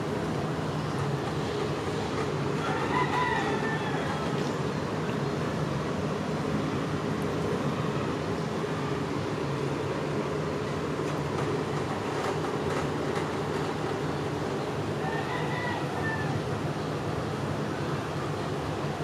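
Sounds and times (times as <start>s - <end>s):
mechanical hum with low drone: 0.0s - 19.0s.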